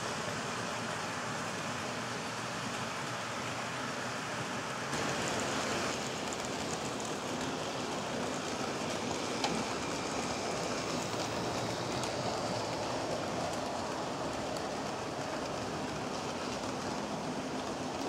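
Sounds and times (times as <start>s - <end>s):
model train wheels rolling: 0.0s - 18.0s.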